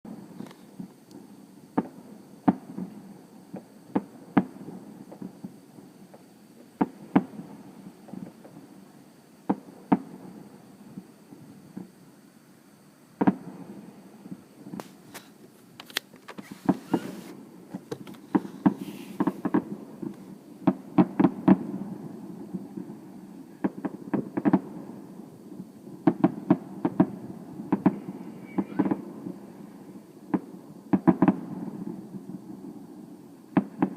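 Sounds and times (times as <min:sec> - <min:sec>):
fireworks bangs and pops: 0:00.1 - 0:12.0, 0:13.2 - 0:33.9.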